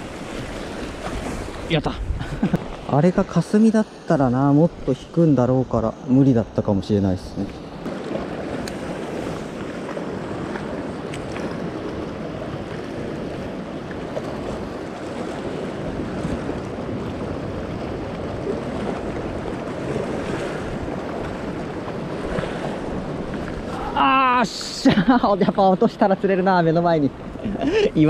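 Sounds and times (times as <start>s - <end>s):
wind buffeting microphone: 0.0s - 24.6s
sea surf washing: 0.0s - 28.0s.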